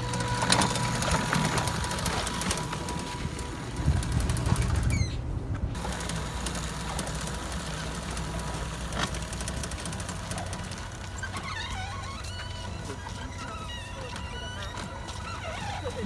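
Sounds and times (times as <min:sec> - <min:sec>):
electric motors whirring: 0:00.0 - 0:16.0.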